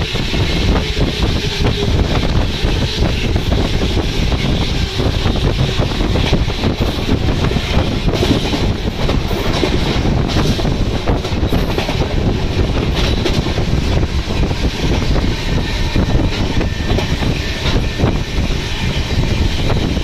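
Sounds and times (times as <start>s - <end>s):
train passing with rumble: 0.0s - 20.0s
wind buffeting microphone: 0.0s - 20.0s.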